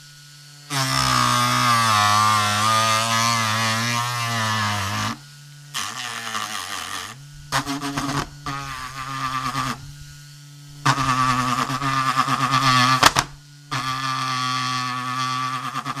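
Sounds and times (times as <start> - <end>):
disc sander whining on wood: 0.6 - 16.0.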